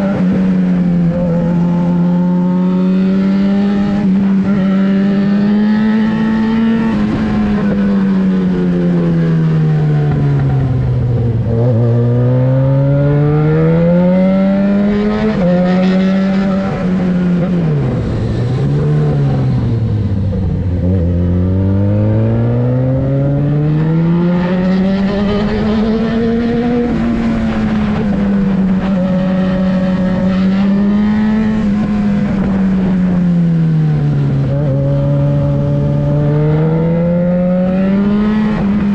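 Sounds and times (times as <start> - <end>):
loud motorcycle engine revving: 0.0 - 38.9.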